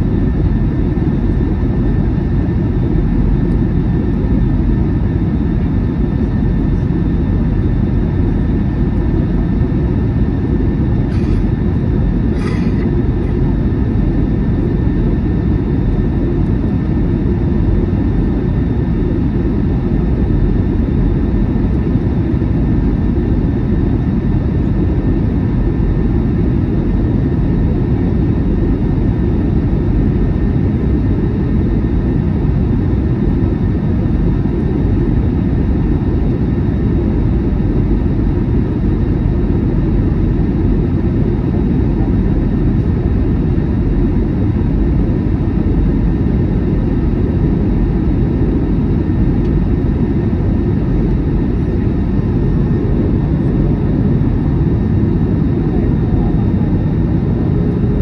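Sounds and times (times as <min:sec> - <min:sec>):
airliner cabin rumble: 0:00.0 - 0:58.0
faint steady whine: 0:00.0 - 0:58.0.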